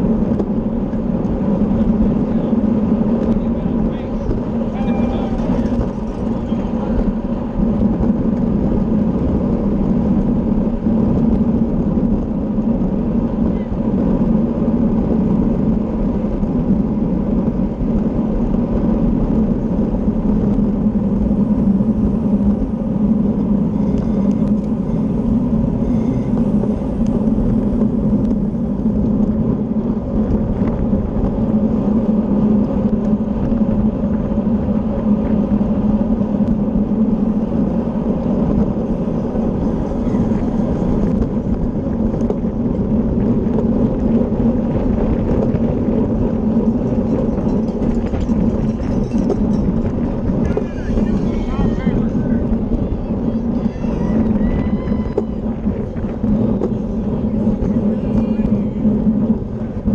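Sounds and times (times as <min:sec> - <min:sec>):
bicycle tyres and drivetrain humming: 0:00.0 - 0:59.9
wind on microphone: 0:00.0 - 0:59.9.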